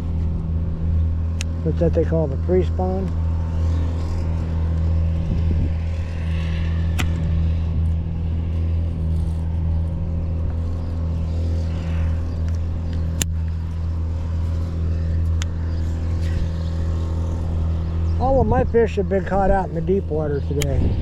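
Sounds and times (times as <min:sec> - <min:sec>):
low engine-like hum: 0:00.0 - 0:21.0.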